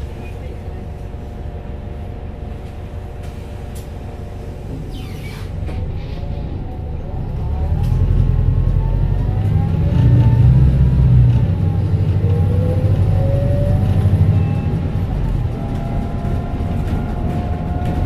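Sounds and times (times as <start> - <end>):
bus engine accelerating: 0.0 - 18.0.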